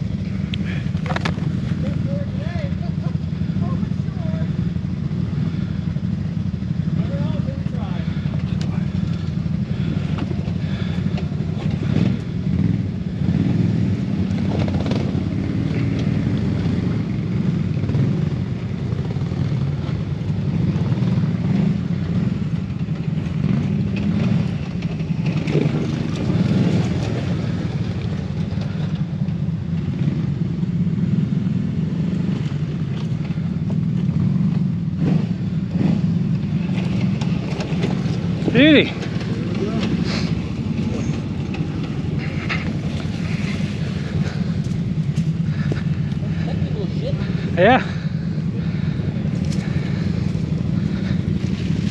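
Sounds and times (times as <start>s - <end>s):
atv engine at low revs: 0.0s - 51.9s.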